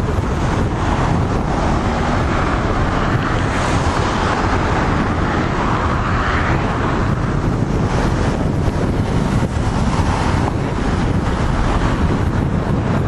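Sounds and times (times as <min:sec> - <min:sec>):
wind and road noise: 0:00.0 - 0:13.0
wind buffeting microphone: 0:00.0 - 0:13.0.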